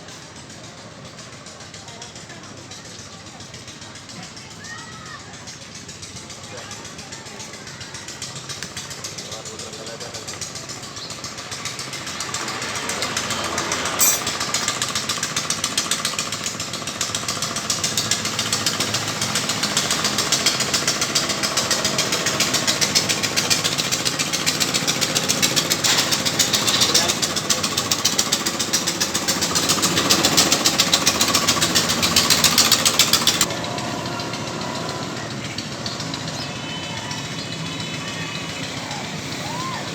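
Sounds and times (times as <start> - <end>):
power tool rattling: 5.4 - 39.4.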